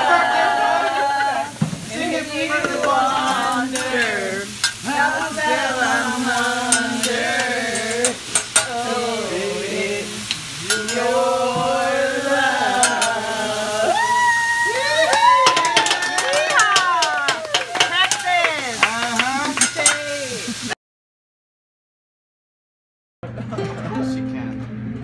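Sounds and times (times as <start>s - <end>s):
griddle sizzling: 0.0s - 20.8s.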